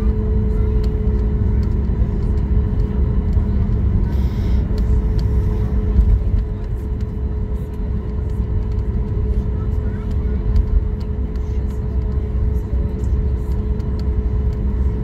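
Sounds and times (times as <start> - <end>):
airplane cabin rumble: 0.0 - 15.0
faint clicks and rattles: 0.6 - 15.0.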